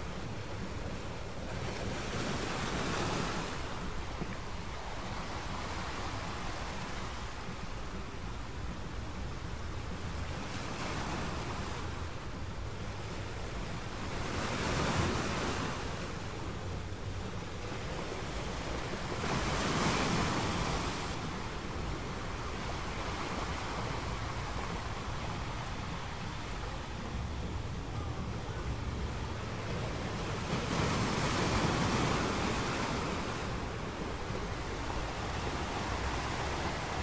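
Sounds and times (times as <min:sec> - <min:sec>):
ocean waves washing on shore: 0:00.0 - 0:37.0.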